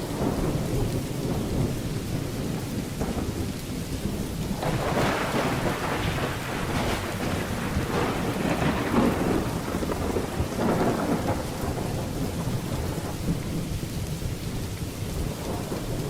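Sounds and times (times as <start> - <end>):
heavy rain: 0.0 - 16.0
low rolling thunder: 0.0 - 16.0.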